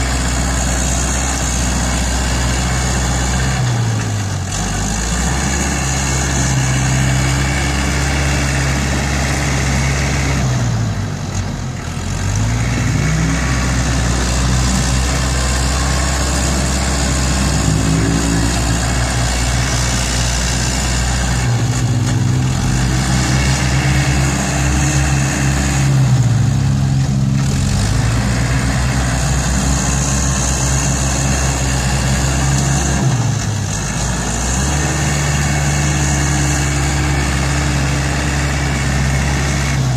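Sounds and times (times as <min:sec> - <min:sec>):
diesel tractor engine labouring: 0:00.0 - 0:39.9.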